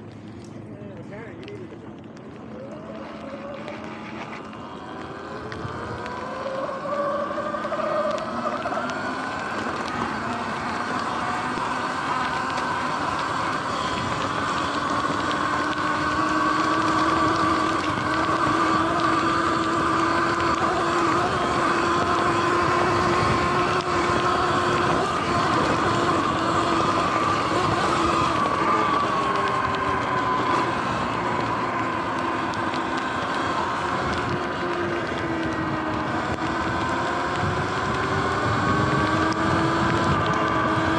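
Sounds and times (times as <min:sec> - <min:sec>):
tyre noise: 0:00.0 - 0:40.9
electric motor whining: 0:01.4 - 0:40.9.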